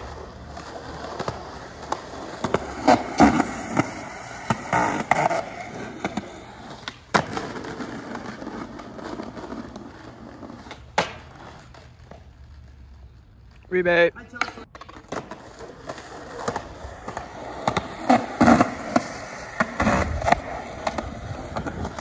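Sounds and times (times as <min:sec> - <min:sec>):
skateboard clacking on ground: 0:00.0 - 0:12.7, 0:14.2 - 0:22.0
skateboard wheels rolling on concrete: 0:00.0 - 0:22.0.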